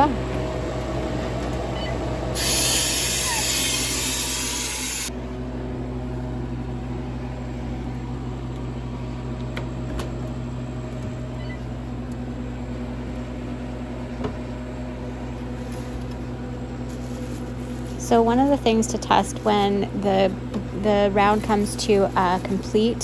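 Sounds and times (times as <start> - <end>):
freeze dryer humming: 0.0 - 23.0.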